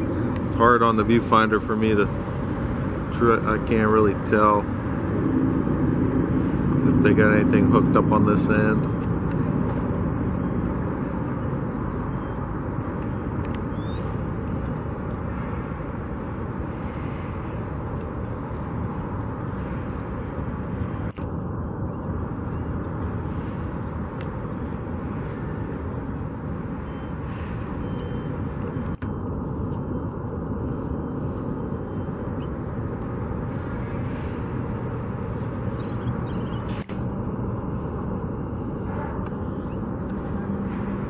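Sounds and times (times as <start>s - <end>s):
low outdoor rumble: 0.0s - 41.0s.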